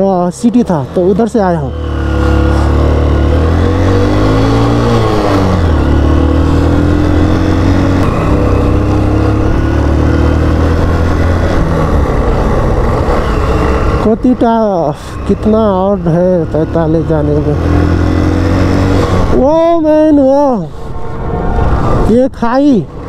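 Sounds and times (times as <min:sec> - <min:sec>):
motorcycle engine running: 0:00.7 - 0:21.2.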